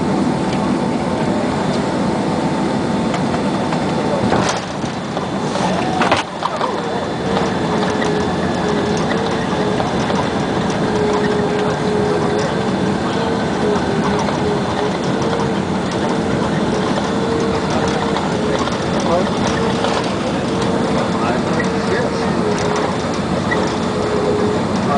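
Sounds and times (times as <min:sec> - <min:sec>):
engine and runway rush: 0:00.0 - 0:24.9.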